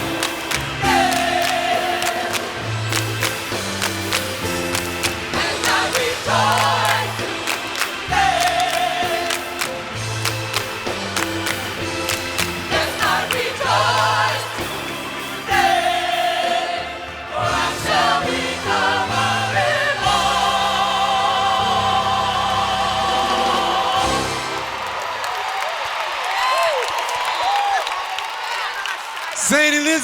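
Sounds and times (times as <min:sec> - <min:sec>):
church choir singing gospel: 0:00.0 - 0:25.2.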